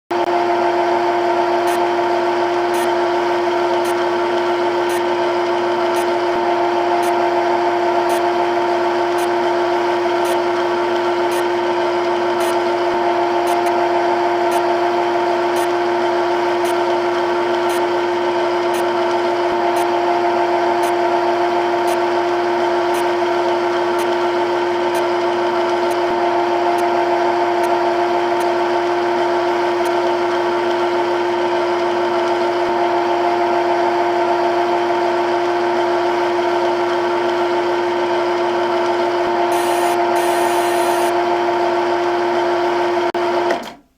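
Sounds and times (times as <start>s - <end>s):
lathe machine hum and whine: 0.1s - 43.6s.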